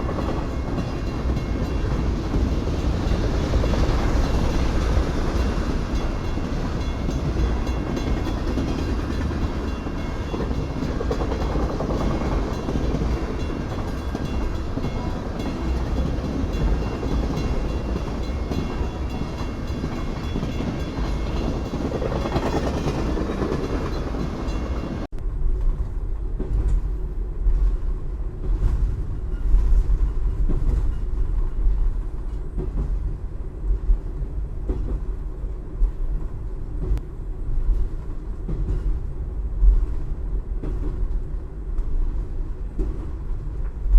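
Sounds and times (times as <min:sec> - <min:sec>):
freight train rumbling: 0:00.0 - 0:43.9.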